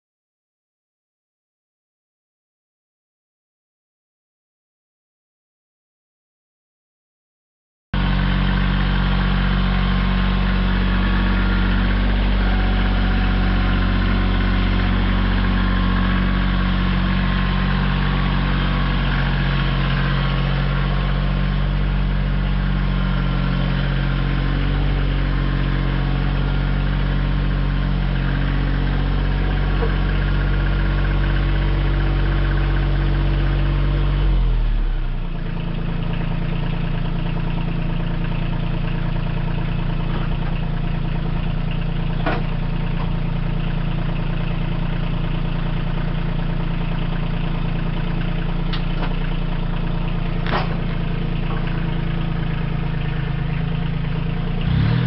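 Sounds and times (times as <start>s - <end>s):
tractor diesel engine running: 8.0s - 55.0s.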